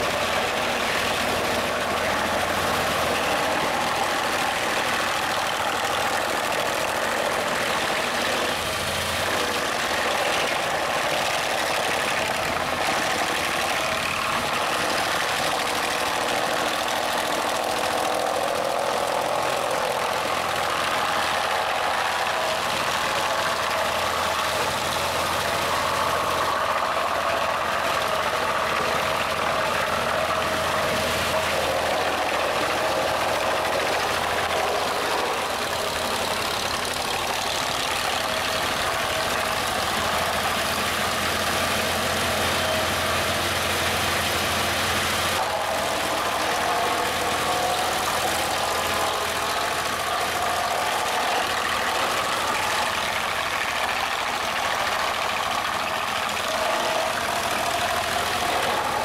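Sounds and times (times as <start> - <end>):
engines running: 0.0 - 59.0
wood chipper chipping logs: 0.0 - 59.0.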